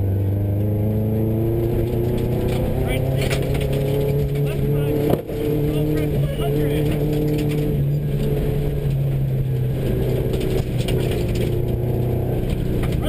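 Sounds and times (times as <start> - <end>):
rally car engine running: 0.0 - 13.0
tyres rumbling on gravel: 1.4 - 13.0.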